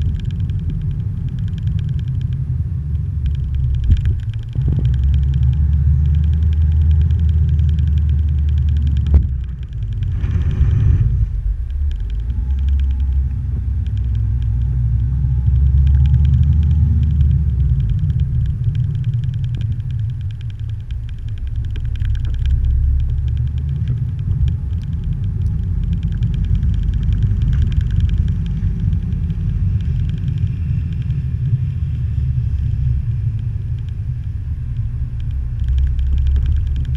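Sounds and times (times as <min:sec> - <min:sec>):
fine rapid rattle: 0:00.0 - 0:36.9
vehicle rumbling on snowy road: 0:00.0 - 0:36.9.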